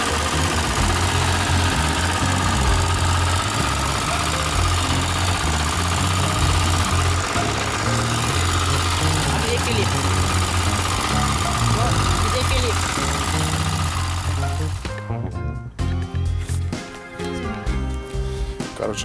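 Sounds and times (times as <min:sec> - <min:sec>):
diesel tractor engine running: 0:00.0 - 0:19.0.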